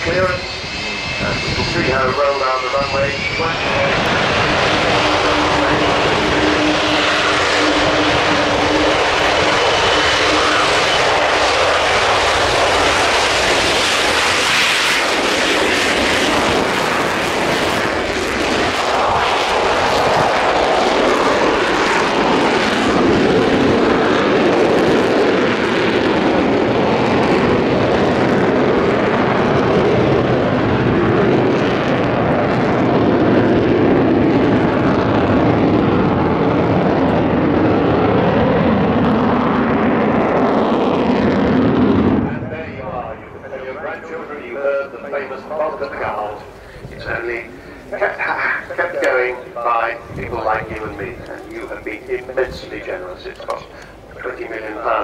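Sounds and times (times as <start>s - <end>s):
jet aircraft taking off: 0.0s - 55.0s.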